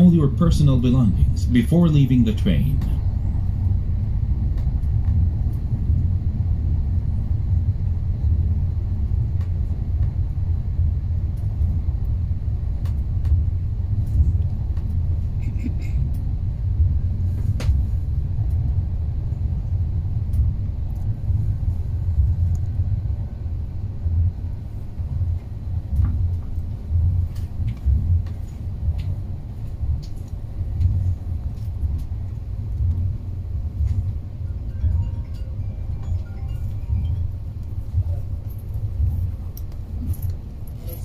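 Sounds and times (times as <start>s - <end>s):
train rumble inside carriage: 0.0s - 41.0s.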